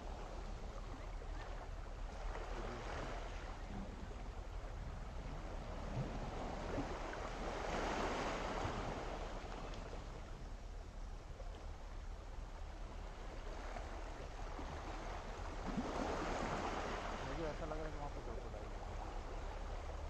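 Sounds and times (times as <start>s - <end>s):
sea waves washing onto shore: 0.0s - 10.8s, 12.6s - 20.0s.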